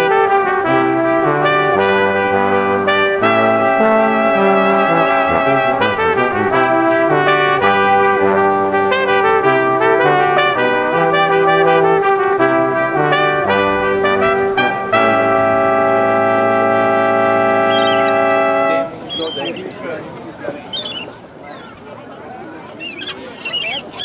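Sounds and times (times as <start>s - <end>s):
brass band music: 0.0s - 19.6s.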